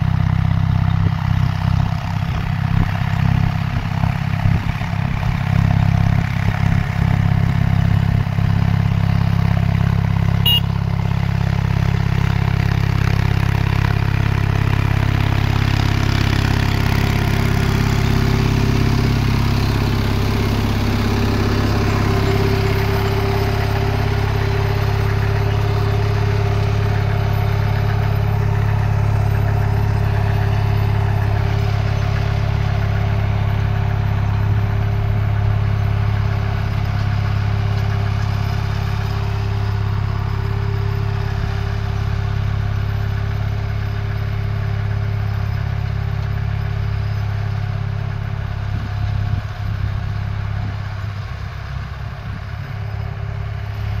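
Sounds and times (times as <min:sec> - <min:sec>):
tractor engine hum: 0:00.0 - 0:54.0.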